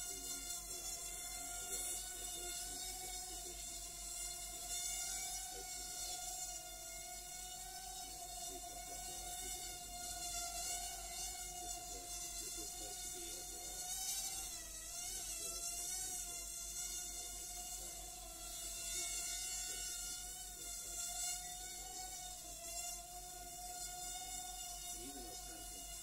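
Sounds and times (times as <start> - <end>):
small drone motors whining: 0.0 - 26.0.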